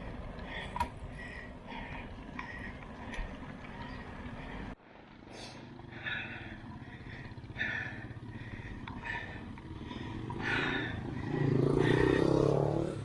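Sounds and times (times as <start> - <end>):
vehicle engine running: 0.0 - 13.0
wind and road noise: 0.0 - 13.0.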